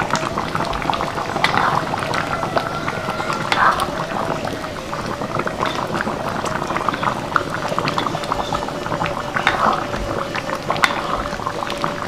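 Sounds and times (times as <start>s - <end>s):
curry bubbling in a wok: 0.0s - 12.0s.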